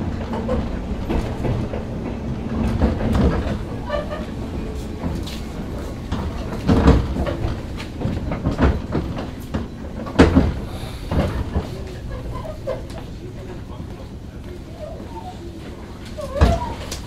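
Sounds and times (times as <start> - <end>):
heavy train clunks: 0.0 - 17.0
train low rumble: 0.0 - 17.0.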